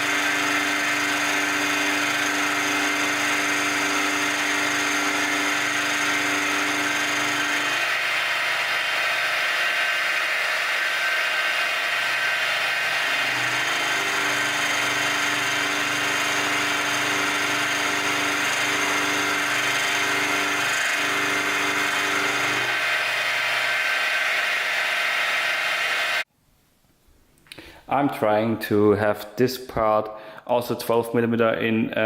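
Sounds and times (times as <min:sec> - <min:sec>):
milling machine motor whining: 0:00.0 - 0:26.2.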